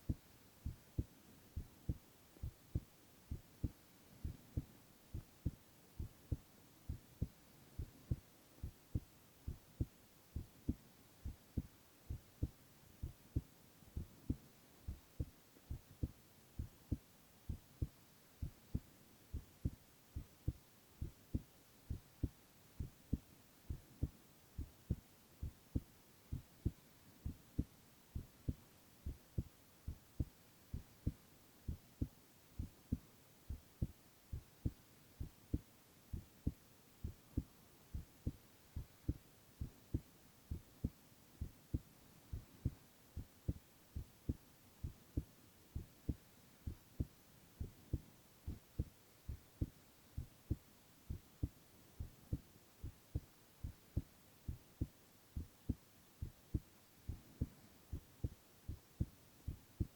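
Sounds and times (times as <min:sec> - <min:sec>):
faint hiss: 0:00.0 - 0:59.9
heartbeat thumps: 0:00.0 - 0:59.9.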